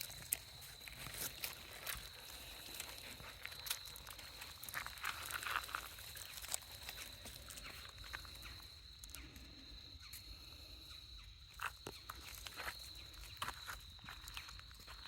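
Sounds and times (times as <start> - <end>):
faint footsteps: 0.0 - 8.6, 11.6 - 15.0.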